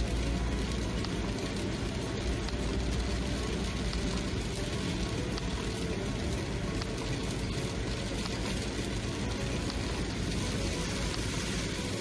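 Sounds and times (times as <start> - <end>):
rain hitting windscreen and roof: 0.0 - 12.0.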